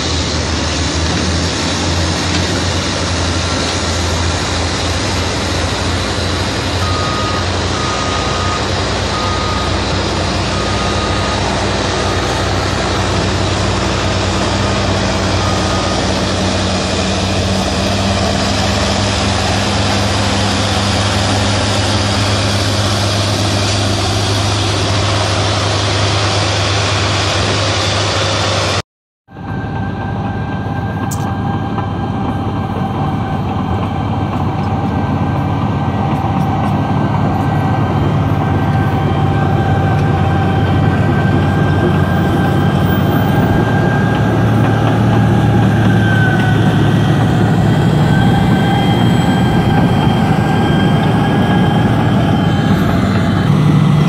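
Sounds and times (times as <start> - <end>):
bulldozer engine whining: 0.0 - 54.0
diesel grader engine droning: 0.0 - 54.0.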